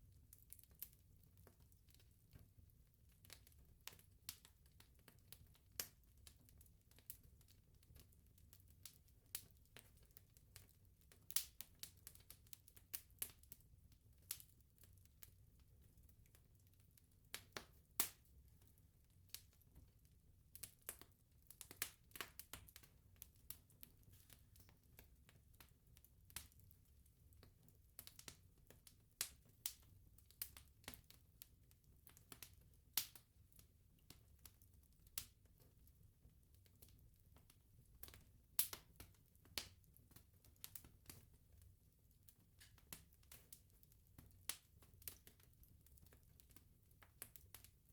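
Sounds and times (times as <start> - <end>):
bonfire crackling and popping: 0.0 - 47.9.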